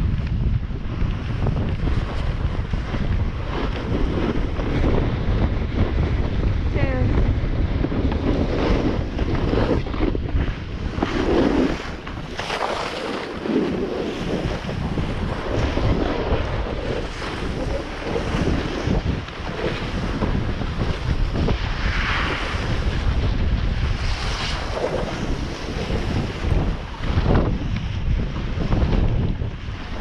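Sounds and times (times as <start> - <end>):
skis sliding on snow: 0.0 - 6.0, 7.7 - 30.0
wind buffeting microphone: 0.0 - 30.0.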